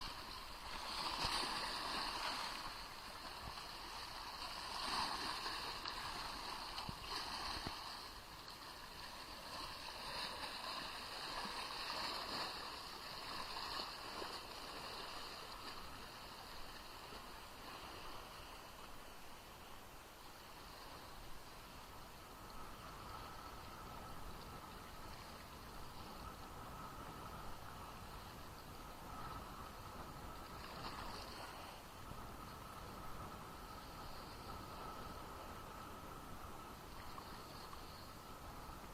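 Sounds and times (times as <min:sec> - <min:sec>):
small waves washing onto shore: 0:00.0 - 0:38.9.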